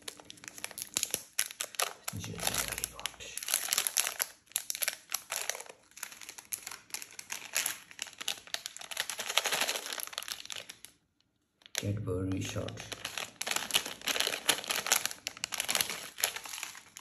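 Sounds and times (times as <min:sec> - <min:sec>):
plastic packets crinkling: 0:00.0 - 0:11.0, 0:11.6 - 0:17.0.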